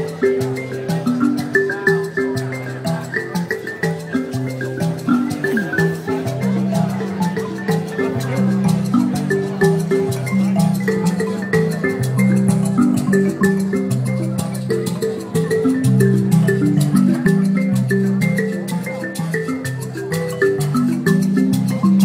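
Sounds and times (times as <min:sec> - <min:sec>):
mbira plucked melody: 0:00.0 - 0:22.0.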